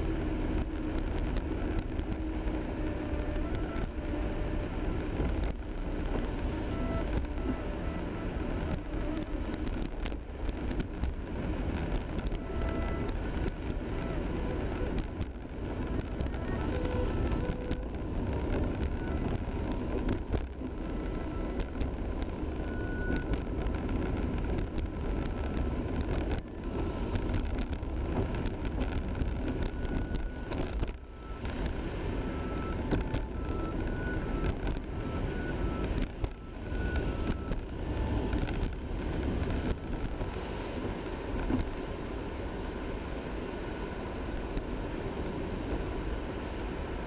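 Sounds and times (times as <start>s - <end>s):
car engine rumble: 0.0s - 47.0s
tyres rolling through snow: 0.0s - 47.0s.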